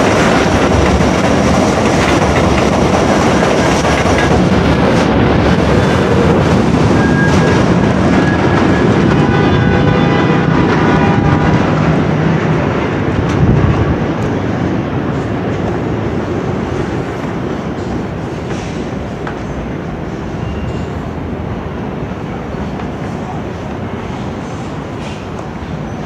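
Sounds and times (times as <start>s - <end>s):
subway car rumbling on rails: 0.0s - 26.0s.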